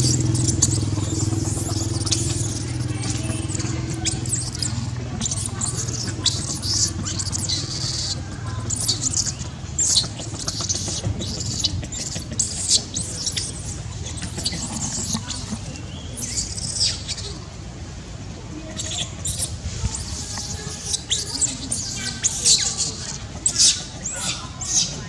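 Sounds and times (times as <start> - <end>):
baby monkey squealing: 0.0 - 17.5, 18.6 - 25.0.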